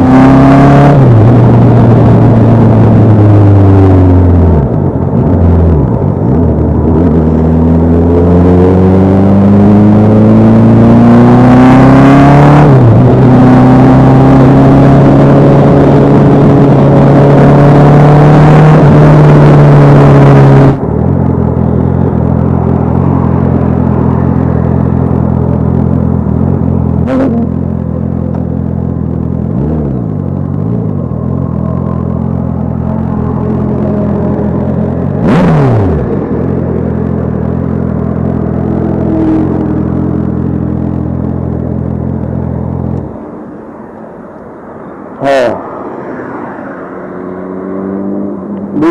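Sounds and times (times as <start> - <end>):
motorcycle engine accelerating: 0.0 - 43.7, 44.9 - 48.9.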